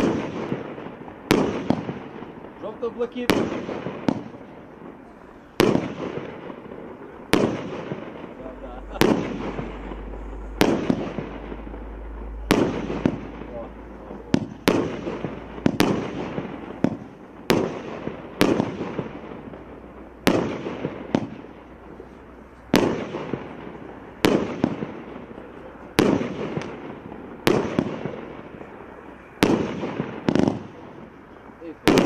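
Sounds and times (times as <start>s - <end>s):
fireworks bangs: 0.0s - 32.0s.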